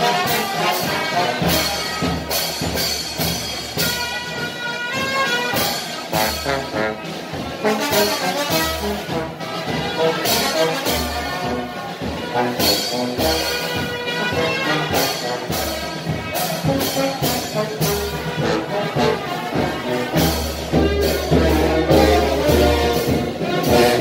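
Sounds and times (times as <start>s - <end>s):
brass band playing: 0.0s - 24.0s.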